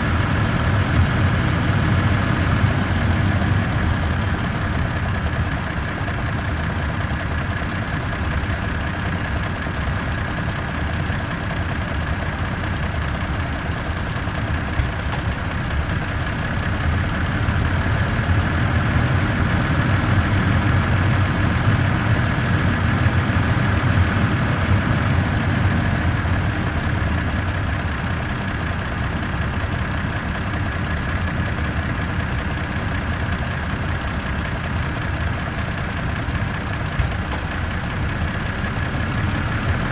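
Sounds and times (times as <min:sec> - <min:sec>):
truck engine throbbing: 0:00.0 - 0:39.9.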